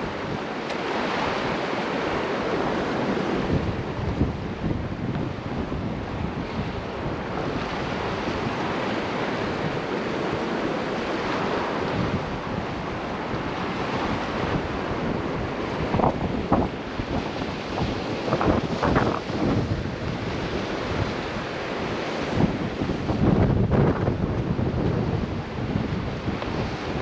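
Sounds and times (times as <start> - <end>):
gusty wind buffeting microphone: 0.0 - 27.0.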